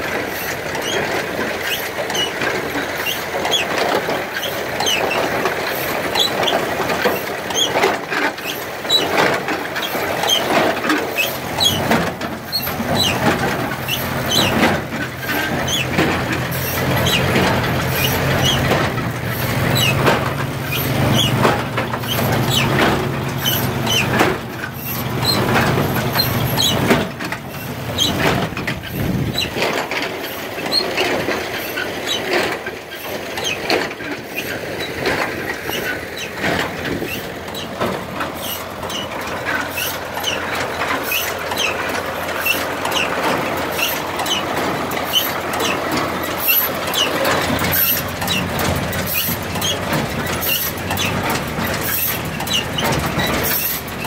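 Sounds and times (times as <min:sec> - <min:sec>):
baler clattering: 0:00.0 - 0:54.0.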